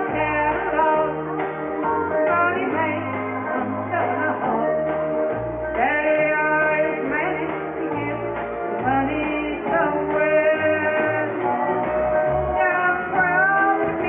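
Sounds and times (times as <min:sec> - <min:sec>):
recorded backing track: 0:00.0 - 0:14.0
woman singing karaoke: 0:00.0 - 0:14.0.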